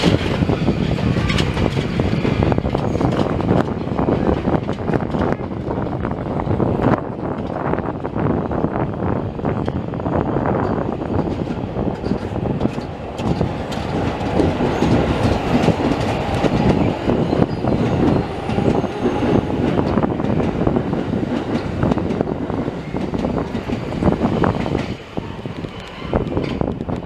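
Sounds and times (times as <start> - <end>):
wheels clacking on track: 0.0 - 8.1, 10.5 - 27.0
electric train rumbling: 0.0 - 27.0.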